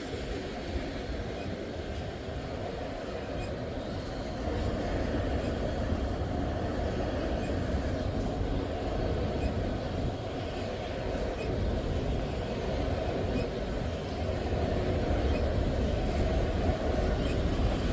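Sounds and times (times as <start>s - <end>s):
freight train rumbling on rails: 0.0s - 17.9s.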